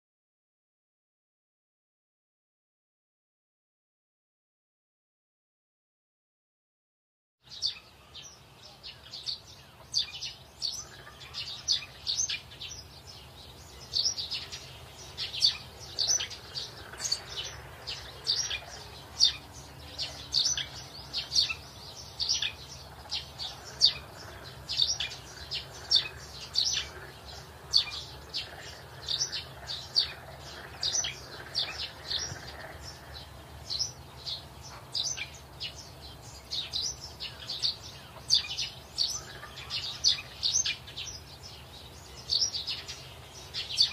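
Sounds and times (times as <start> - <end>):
small birds chirping: 7.4 - 43.9.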